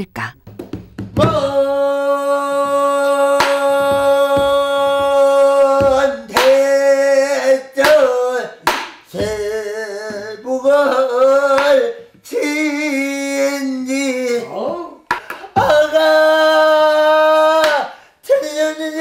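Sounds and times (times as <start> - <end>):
boy singing: 1.2 - 19.0.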